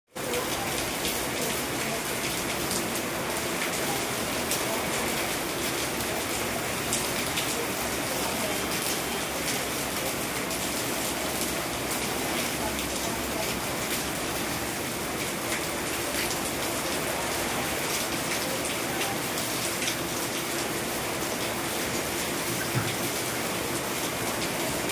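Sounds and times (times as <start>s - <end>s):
heavy rain falling: 0.1s - 24.9s.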